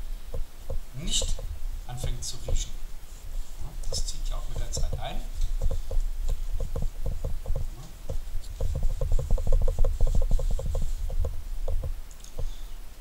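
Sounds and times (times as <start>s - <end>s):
fingers rubbing leather: 0.7s - 12.5s.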